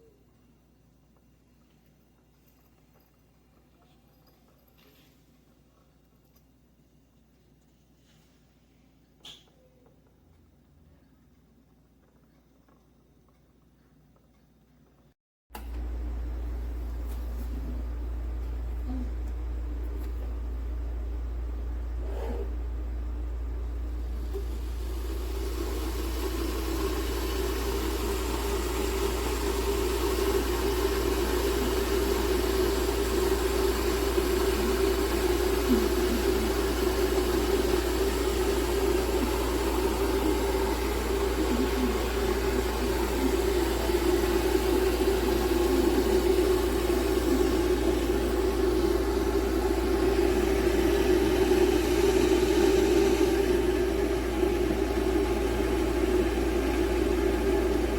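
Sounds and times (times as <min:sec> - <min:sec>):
electric kettle heating water: 0:09.2 - 0:57.9.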